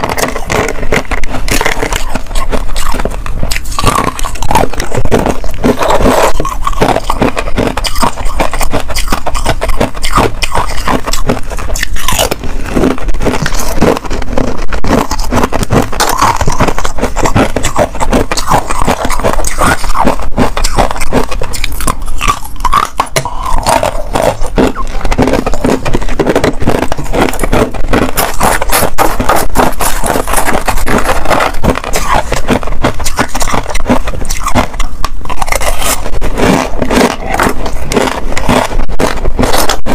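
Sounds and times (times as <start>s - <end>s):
crunchy chewing of ice: 0.0s - 39.9s.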